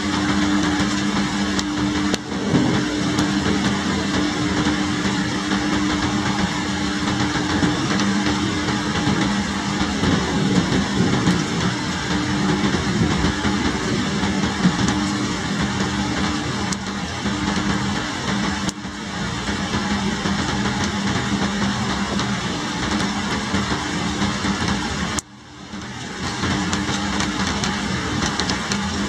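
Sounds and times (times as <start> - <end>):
heavy rain falling: 0.0 - 29.0
low steady hum: 0.0 - 29.0.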